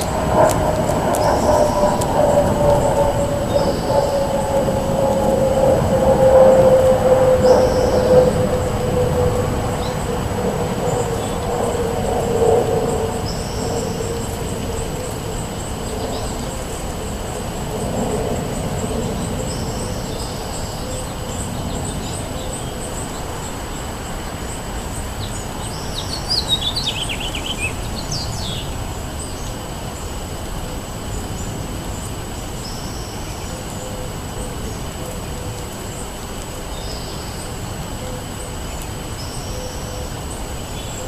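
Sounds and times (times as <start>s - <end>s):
songbird calls: 0.0s - 17.3s, 19.0s - 29.6s, 32.6s - 41.0s
wind rumble: 0.0s - 41.0s.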